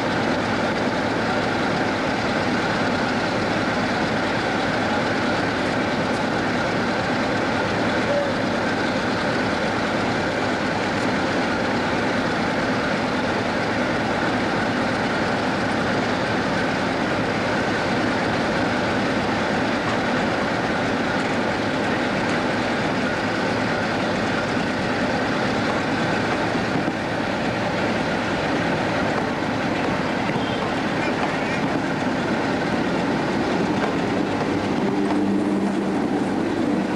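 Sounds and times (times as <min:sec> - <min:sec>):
diesel locomotive engine idling: 0:00.0 - 0:36.9.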